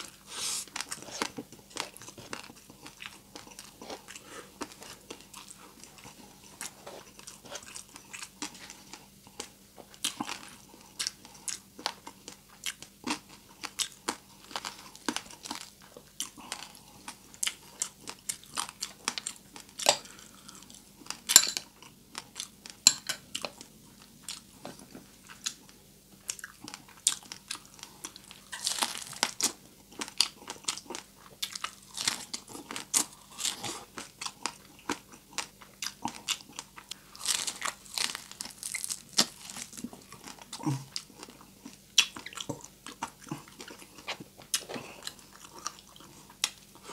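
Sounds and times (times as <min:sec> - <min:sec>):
person crunching and chewing: 0:00.0 - 0:46.9.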